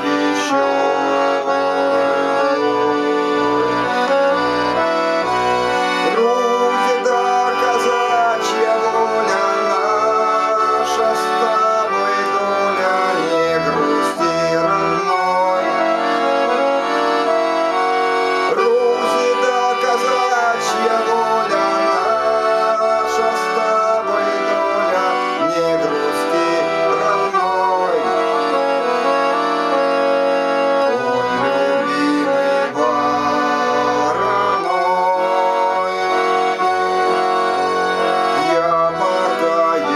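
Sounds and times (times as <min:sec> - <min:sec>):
accordion playing folk melody: 0:00.0 - 0:39.9.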